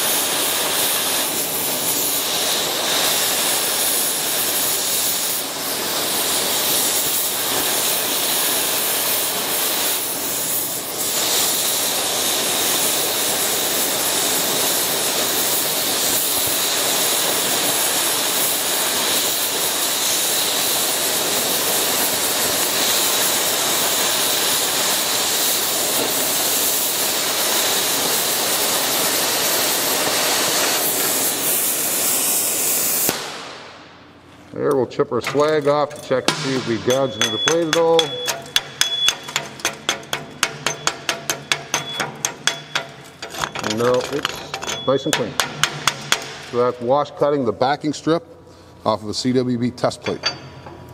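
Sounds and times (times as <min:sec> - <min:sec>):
cutting torch hissing: 0:00.0 - 0:33.9, 0:35.3 - 0:45.2.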